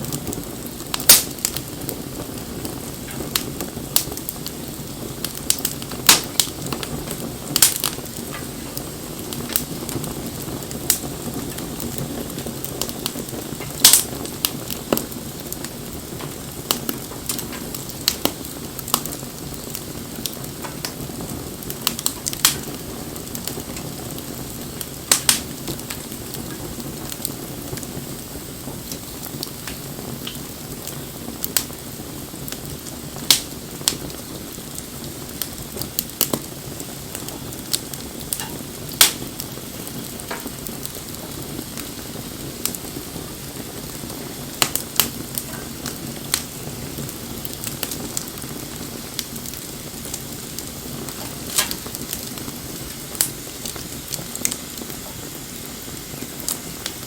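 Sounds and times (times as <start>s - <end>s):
fire crackling and popping: 0.0s - 57.0s
fire low rush: 0.0s - 57.0s.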